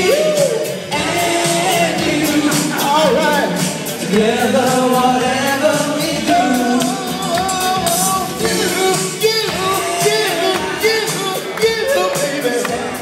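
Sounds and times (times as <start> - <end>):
karaoke backing track: 0.0 - 13.0
man singing: 0.0 - 13.0.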